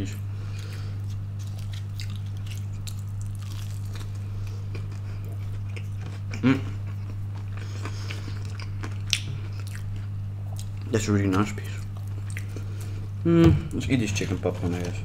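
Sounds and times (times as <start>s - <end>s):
low electrical hum: 0.0s - 15.0s
person chewing fried chicken: 0.4s - 13.2s.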